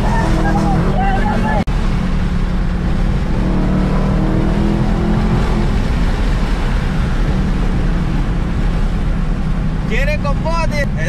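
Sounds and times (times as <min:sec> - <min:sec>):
car engine cruising: 0:00.0 - 0:11.0
tyre and road noise: 0:00.0 - 0:11.0.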